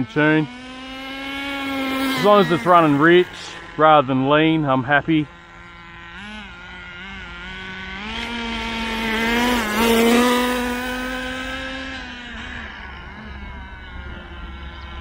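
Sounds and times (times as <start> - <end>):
small nitro engine revving: 0.0 - 15.0.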